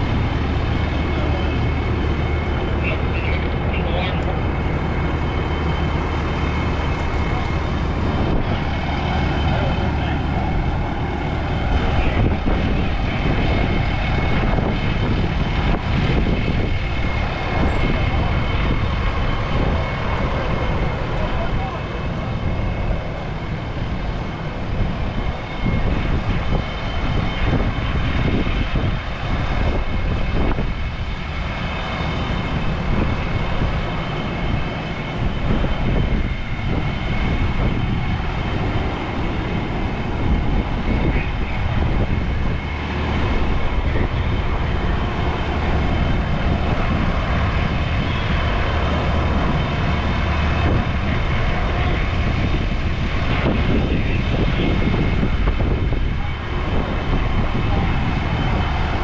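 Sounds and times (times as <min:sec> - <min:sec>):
fire engine running: 0:00.0 - 0:59.0.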